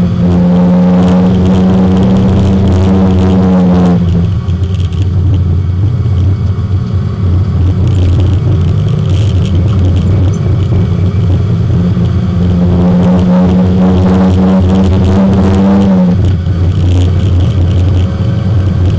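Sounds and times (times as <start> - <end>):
race car engine from inside: 0.0 - 18.9.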